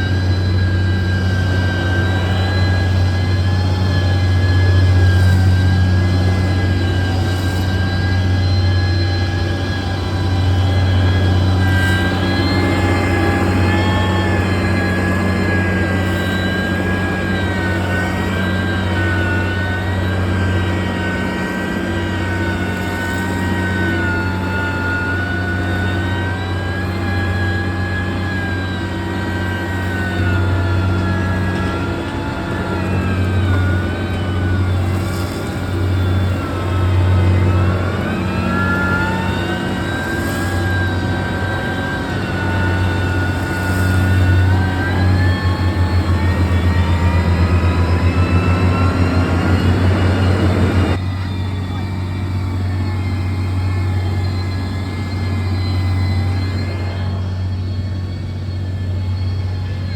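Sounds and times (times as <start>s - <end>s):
heavy machine engine running: 0.0s - 59.9s
whine rising and falling: 0.0s - 59.9s.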